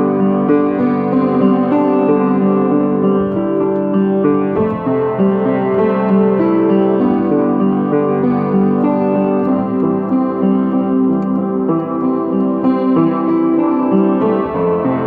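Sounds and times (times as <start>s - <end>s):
upright piano slow melody: 0.0s - 15.0s.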